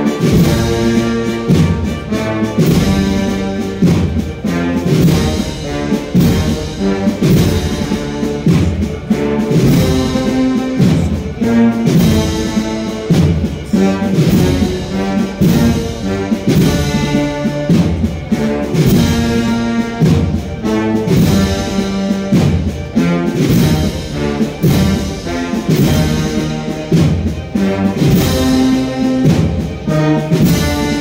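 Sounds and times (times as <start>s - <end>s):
brass melody: 0.0s - 31.0s
steady drum beat: 0.0s - 31.0s.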